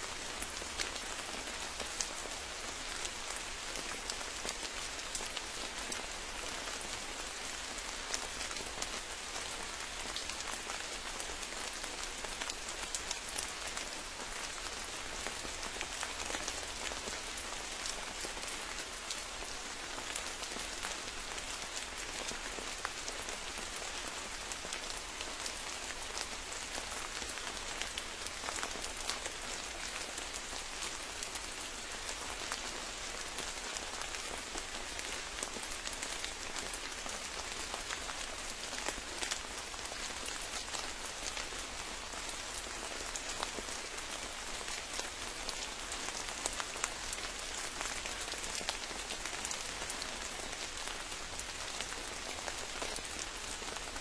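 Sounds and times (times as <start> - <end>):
rain falling in forest: 0.0 - 54.0.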